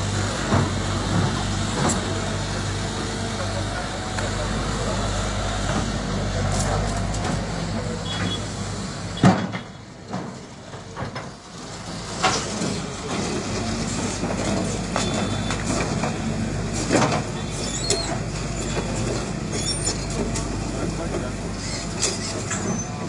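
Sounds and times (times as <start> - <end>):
excavator diesel engine running: 0.0 - 23.0
steel tracks and bucket clanking: 0.0 - 23.0.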